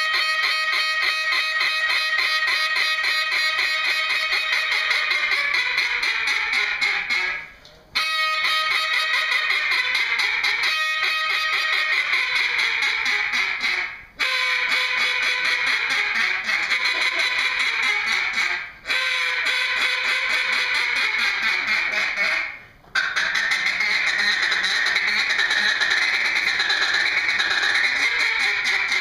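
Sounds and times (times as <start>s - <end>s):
duck call quacking: 0.0s - 29.0s.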